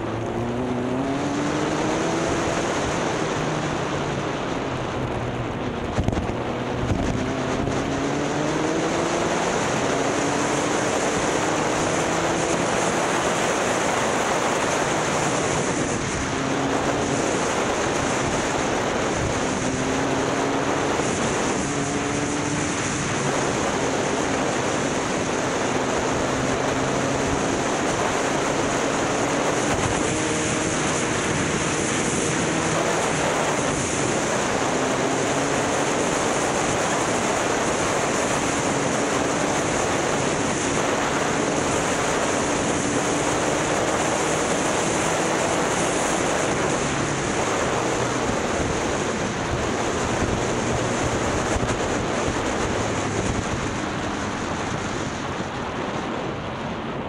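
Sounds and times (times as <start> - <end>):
motorcycle engine running: 0.0 - 55.4
wind noise on microphone: 0.0 - 57.0.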